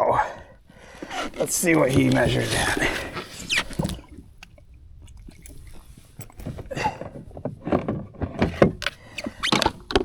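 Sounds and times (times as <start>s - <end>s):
knocks clicks and scrapes in a kayak: 0.2s - 10.0s.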